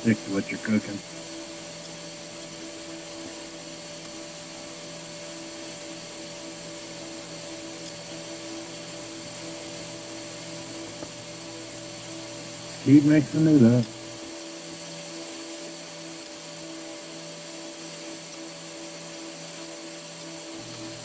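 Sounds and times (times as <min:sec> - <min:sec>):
angle grinder motor drone: 0:00.0 - 0:21.0.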